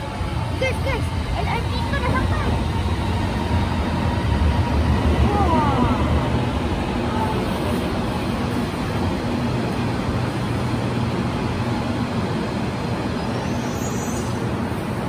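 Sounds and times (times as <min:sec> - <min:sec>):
train rumbling past platform: 0:00.0 - 0:15.0.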